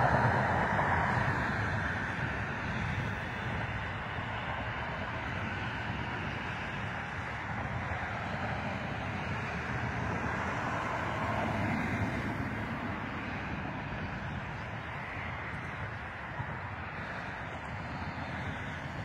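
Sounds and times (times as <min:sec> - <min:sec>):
highway traffic hum: 0:00.0 - 0:19.0.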